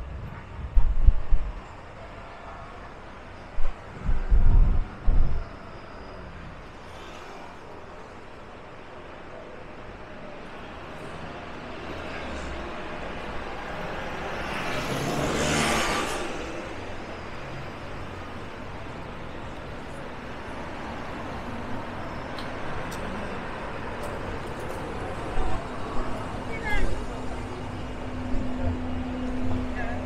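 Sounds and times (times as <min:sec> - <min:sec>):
steady road traffic: 0:00.0 - 0:30.0.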